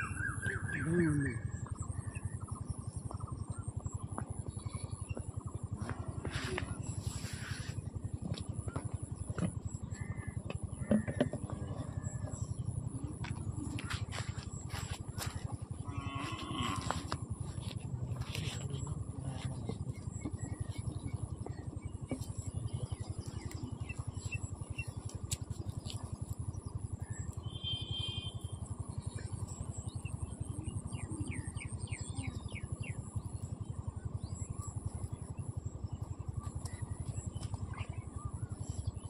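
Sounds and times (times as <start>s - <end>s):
small birds chirping: 0.0s - 39.0s
steady low rumble: 0.0s - 39.0s.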